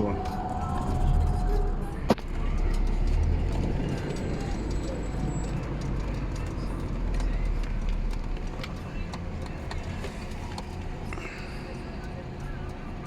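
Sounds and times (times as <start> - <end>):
van cab drone: 0.0 - 13.0.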